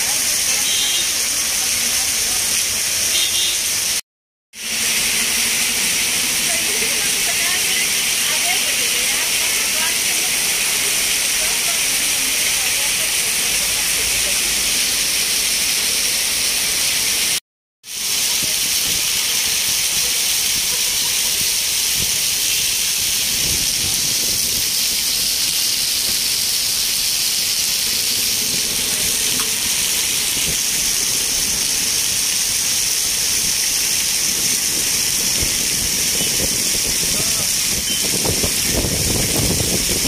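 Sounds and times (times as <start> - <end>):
heavy rain pouring: 0.0 - 4.0, 4.6 - 40.0.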